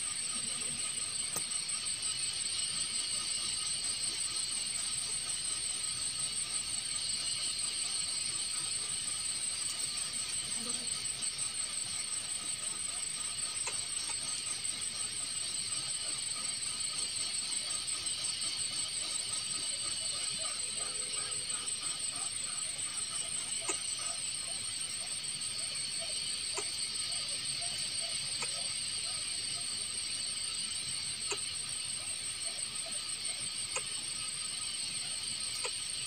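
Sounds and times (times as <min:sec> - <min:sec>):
insects trilling: 0:00.0 - 0:36.0.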